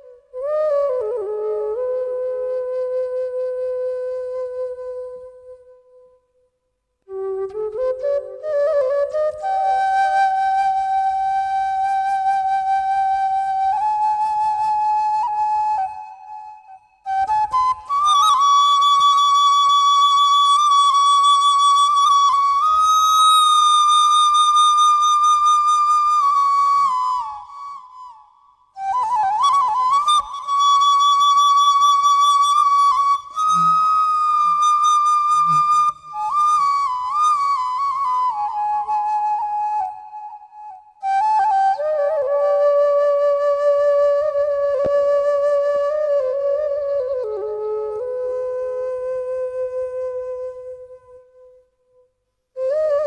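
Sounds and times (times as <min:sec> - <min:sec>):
flute-like wind instrument: 0:00.0 - 0:06.3, 0:07.0 - 0:53.0.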